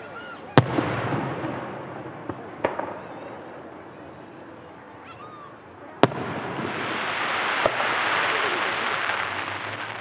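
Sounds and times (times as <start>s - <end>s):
loud firework crackling: 0.6s - 5.0s, 6.0s - 10.0s.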